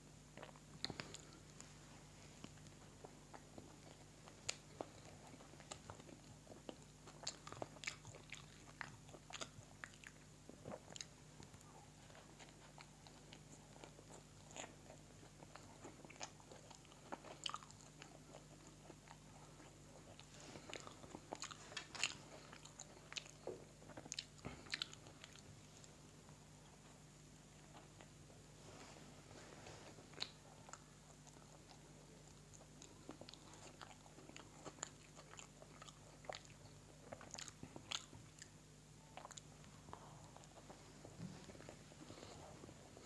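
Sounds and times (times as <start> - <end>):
burger being chewed: 0.3 - 28.4, 29.5 - 43.0.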